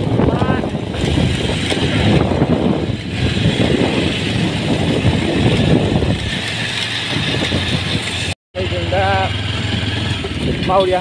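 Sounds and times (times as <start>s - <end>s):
motorcycle engines and road rumble: 0.0s - 11.0s.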